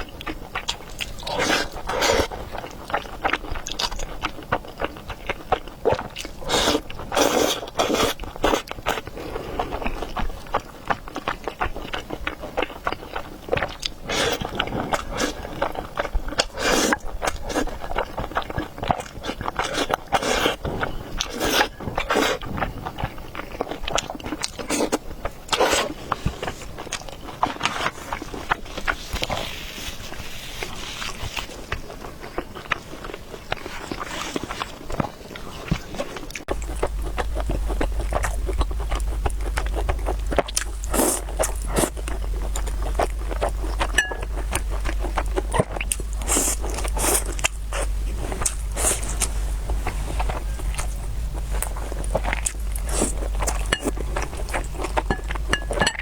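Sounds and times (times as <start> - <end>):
biting and chewing food: 0.0 - 29.5, 30.6 - 56.0.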